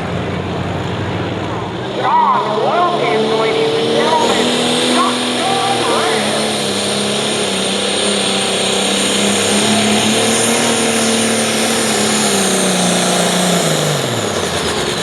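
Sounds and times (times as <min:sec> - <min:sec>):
high turbo whine: 0:00.0 - 0:15.0
tractor diesel engine at high revs: 0:00.0 - 0:15.0.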